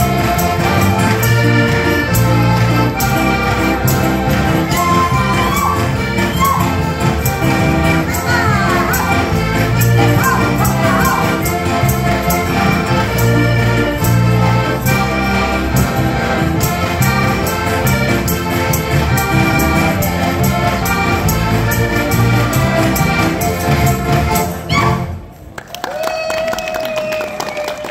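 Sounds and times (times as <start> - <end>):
electric bass: 0.0 - 24.7
acoustic guitar: 0.0 - 25.0
button accordions playing folk tune: 0.0 - 25.2.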